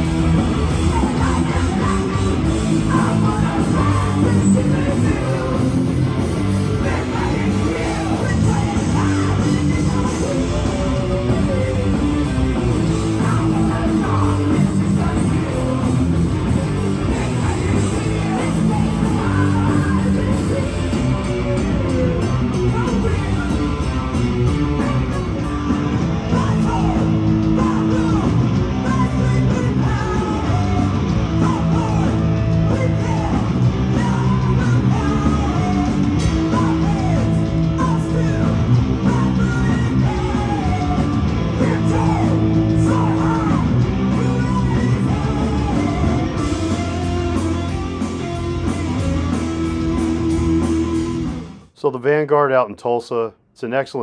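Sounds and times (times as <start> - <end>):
heavy metal band playing live: 0.0 - 51.7
person singing: 0.5 - 47.8.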